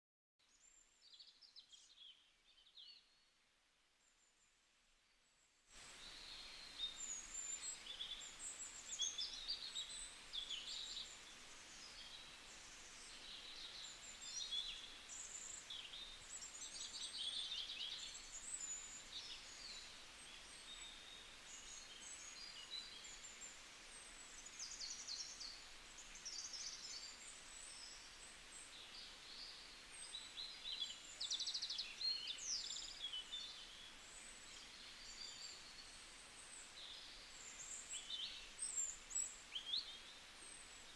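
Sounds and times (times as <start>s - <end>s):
faint steady hiss: 0.4s - 40.9s.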